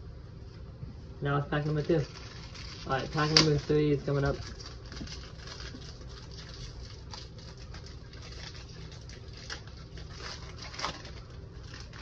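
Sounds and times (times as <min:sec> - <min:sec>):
low hum: 0:00.0 - 0:12.0
foil pack rustling and crinkling: 0:01.5 - 0:12.0.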